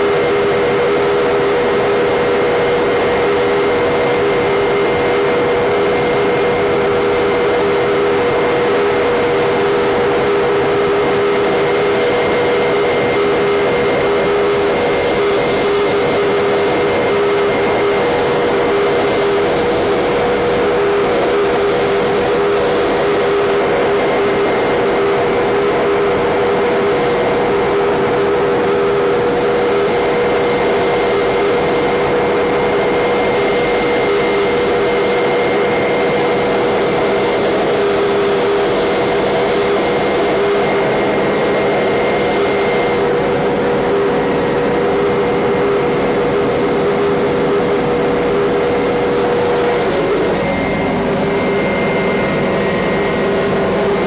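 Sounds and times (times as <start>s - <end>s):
helicopter engine drone: 0.0s - 54.0s
high whine: 0.0s - 54.0s.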